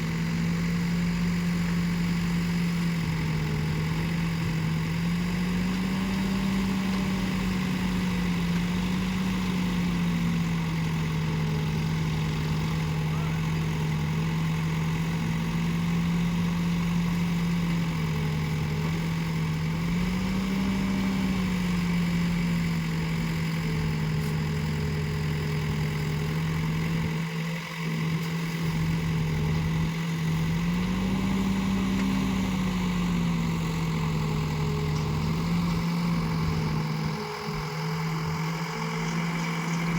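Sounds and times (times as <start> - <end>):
backhoe loader engine running: 0.0 - 39.9.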